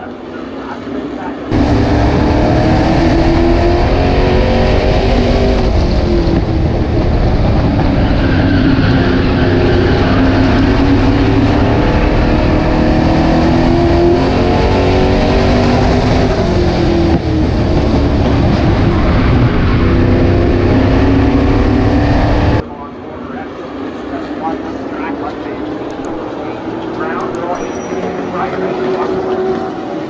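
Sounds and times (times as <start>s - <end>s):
race car engine at speed: 0.0s - 30.0s.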